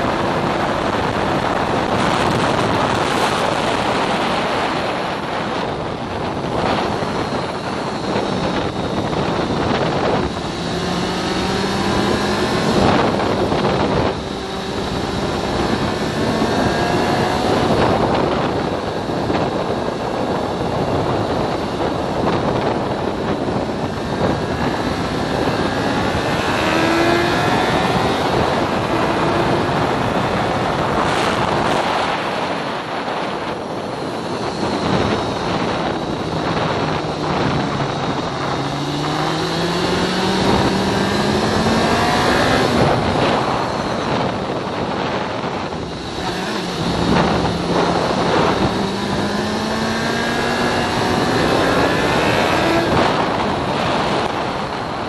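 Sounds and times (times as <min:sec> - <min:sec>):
motorcycle engine revving through gears: 0:00.0 - 0:55.0
wind rush on microphone: 0:00.0 - 0:55.0.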